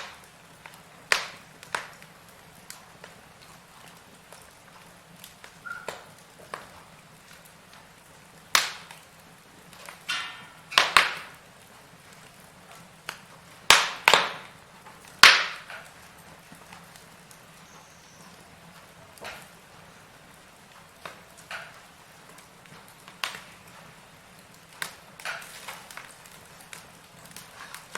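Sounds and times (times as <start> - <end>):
firewood crackling and popping: 0.0 - 27.9
low steady background noise: 0.0 - 27.9.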